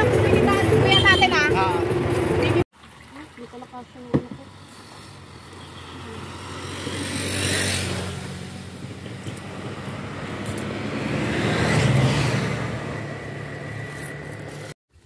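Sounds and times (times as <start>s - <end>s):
vehicles driving past: 0.0s - 14.8s.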